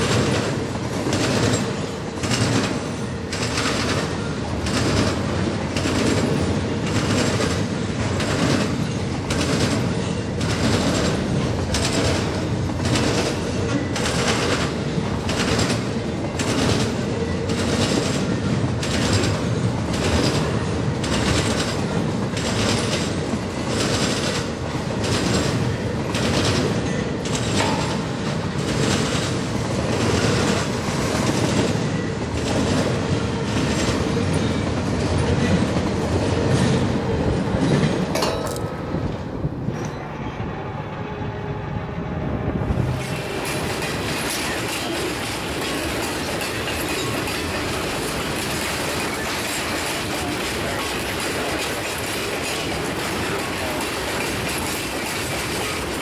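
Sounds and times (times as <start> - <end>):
train wheels clicking over rail joints: 0.0 - 40.0, 42.8 - 56.0
freight train rumble: 0.0 - 56.0.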